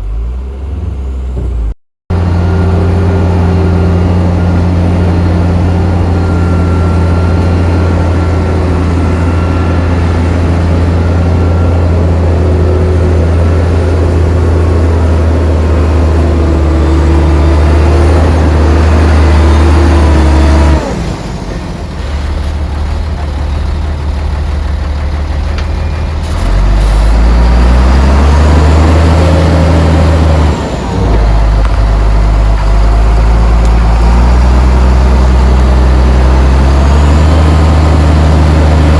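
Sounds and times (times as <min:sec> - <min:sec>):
heavy diesel engine under load: 0:00.0 - 0:38.9.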